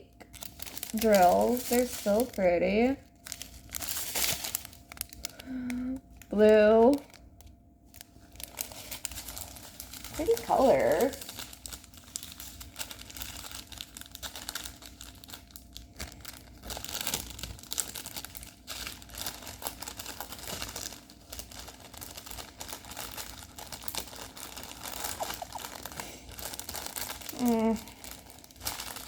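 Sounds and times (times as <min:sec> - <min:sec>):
plastic packaging crinkling: 0:00.1 - 0:29.0.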